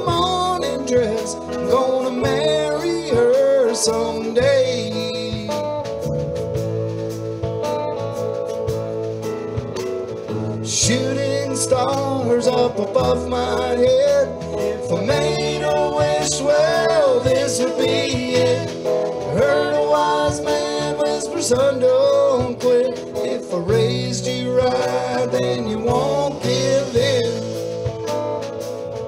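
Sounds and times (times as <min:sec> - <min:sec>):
country song with singing: 0:00.0 - 0:29.0.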